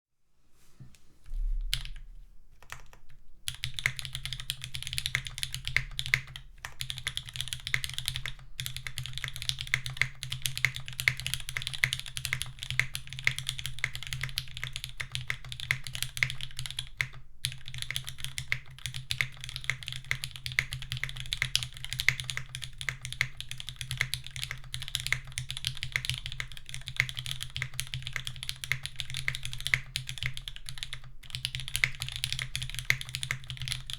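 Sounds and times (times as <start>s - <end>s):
mechanical keyboard typing: 2.6s - 33.9s.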